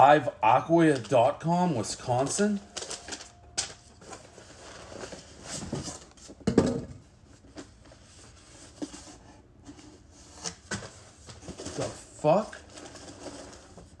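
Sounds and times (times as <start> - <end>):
cardboard rustling and scraping: 2.1 - 6.4, 7.1 - 14.0.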